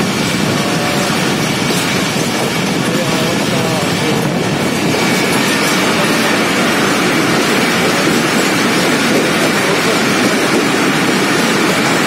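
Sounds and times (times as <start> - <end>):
train rushing through tunnel: 0.0 - 12.0.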